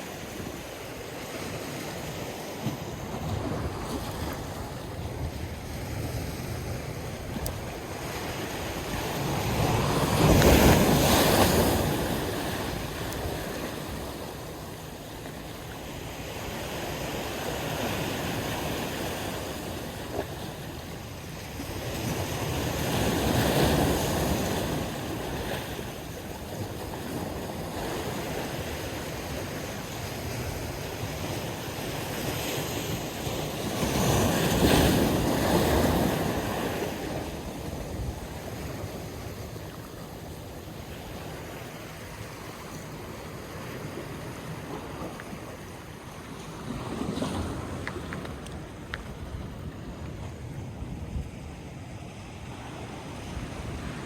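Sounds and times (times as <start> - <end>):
water by the shore: 0.0 - 54.0
wind: 0.0 - 54.0.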